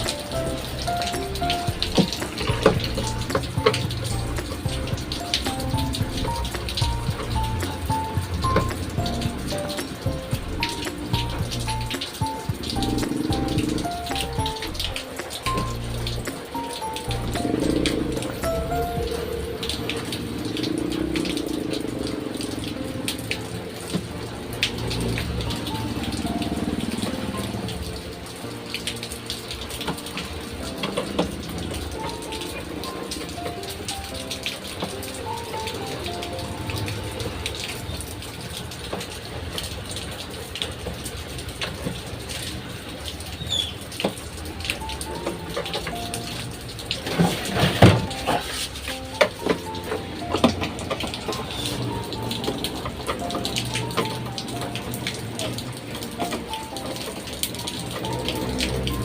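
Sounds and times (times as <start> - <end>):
faint musical notes: 0.0 - 59.0
rushing water: 0.0 - 59.0.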